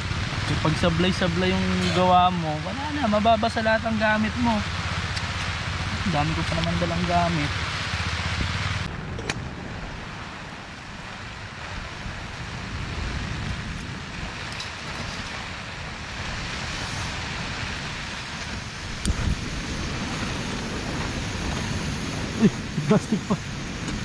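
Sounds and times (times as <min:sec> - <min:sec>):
rain hissing: 0:00.0 - 0:24.0
wind rumbling on microphone: 0:00.0 - 0:24.0.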